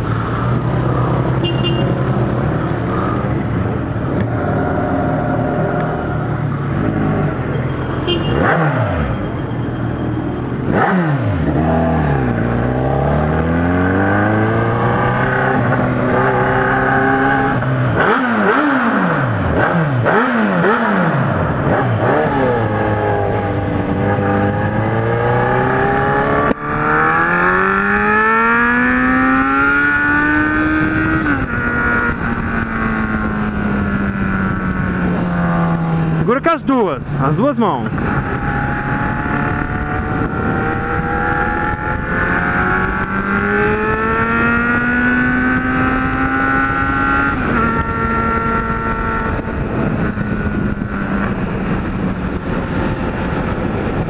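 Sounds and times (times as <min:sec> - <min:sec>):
motorcycle engine accelerating: 0:00.0 - 0:36.4, 0:37.0 - 0:54.0.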